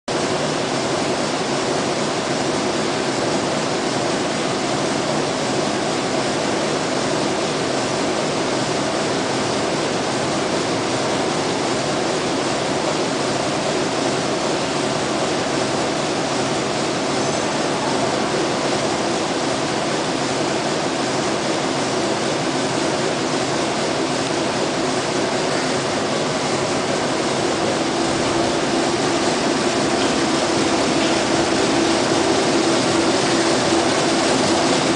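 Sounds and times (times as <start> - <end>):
loom running: 0.1 - 34.9.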